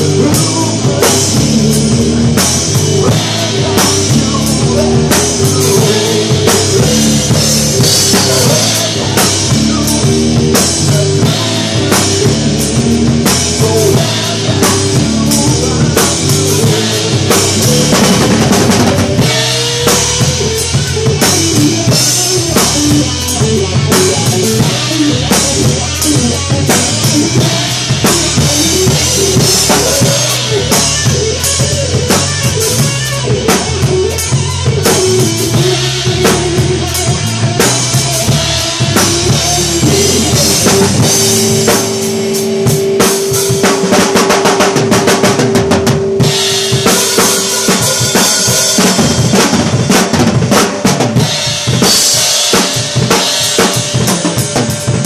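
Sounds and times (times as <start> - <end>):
drum kit playing: 0.0 - 55.0.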